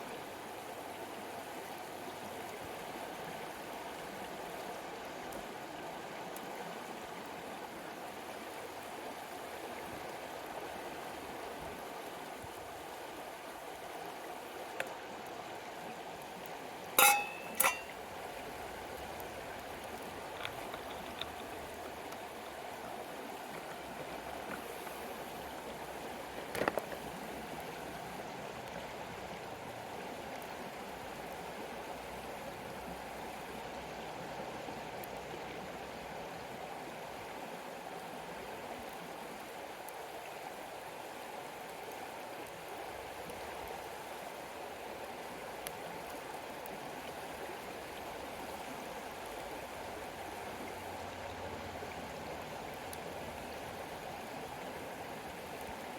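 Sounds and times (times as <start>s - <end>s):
river water flowing over stones: 0.0s - 55.9s.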